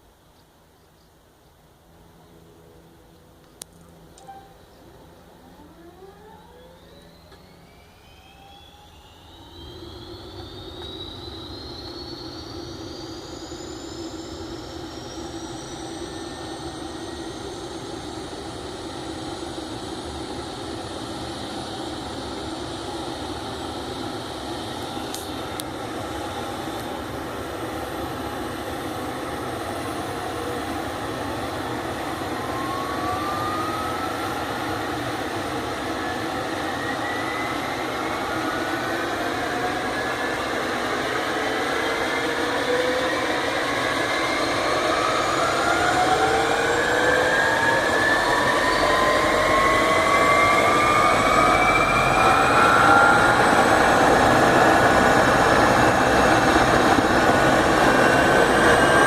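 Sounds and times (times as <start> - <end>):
helicopter rotor mechanical noise: 1.6 - 59.0
helicopter turbine whines: 1.6 - 59.0.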